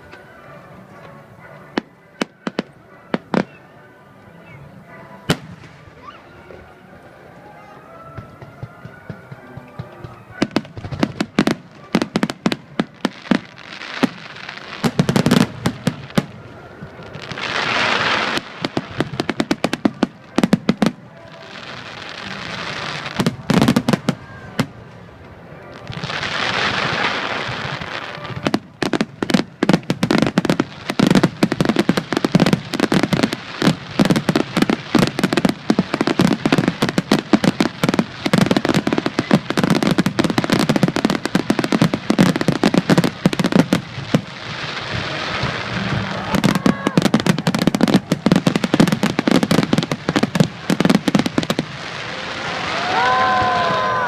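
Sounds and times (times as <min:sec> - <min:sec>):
fireworks bursting: 0:05.2 - 0:06.6, 0:08.2 - 0:54.0.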